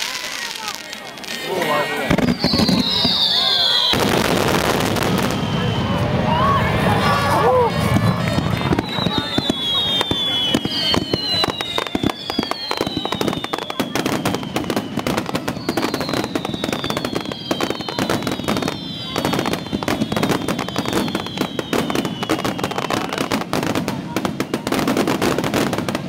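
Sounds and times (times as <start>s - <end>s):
falling firework whistles: 0.0s - 6.7s, 7.7s - 26.0s
fireworks bangs and crackling: 0.0s - 26.0s.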